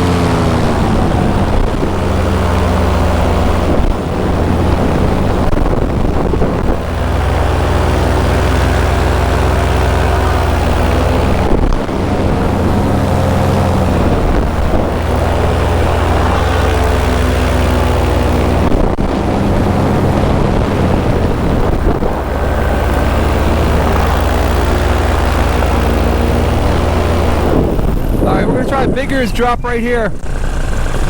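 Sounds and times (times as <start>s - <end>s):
paramotor engine and propeller: 0.0s - 31.0s
wind rushing over microphone: 0.0s - 31.0s.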